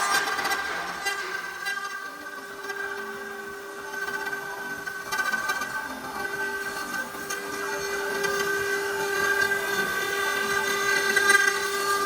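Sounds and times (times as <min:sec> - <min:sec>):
cnc router whine: 0:00.0 - 0:12.0.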